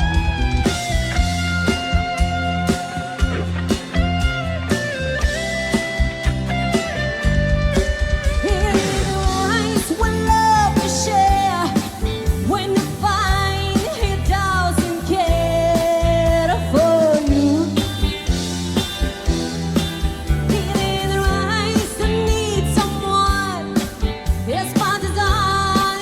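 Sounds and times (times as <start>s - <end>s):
bass and drums beat: 0.0s - 26.0s.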